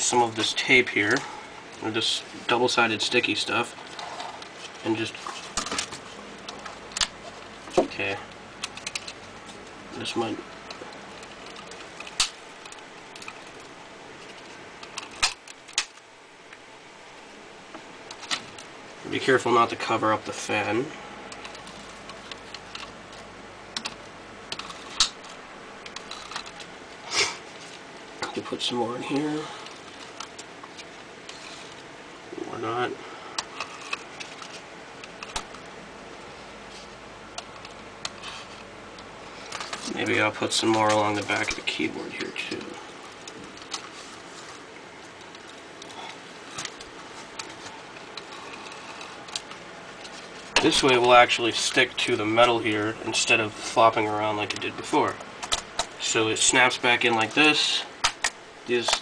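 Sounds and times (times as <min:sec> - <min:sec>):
tape rustling: 0:00.1 - 0:16.7, 0:17.7 - 0:59.0.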